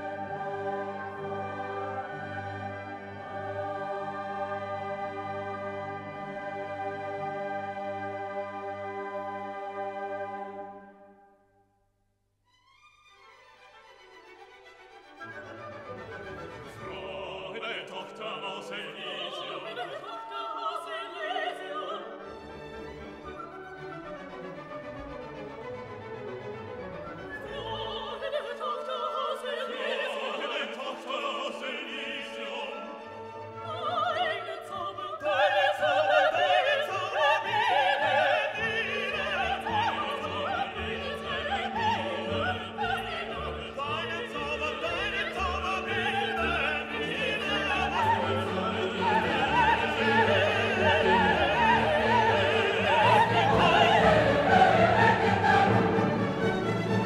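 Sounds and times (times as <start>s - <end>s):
operatic singing: 0.0s - 10.9s, 16.2s - 23.1s, 27.2s - 57.0s
classical orchestral music: 0.0s - 11.4s, 12.6s - 57.0s.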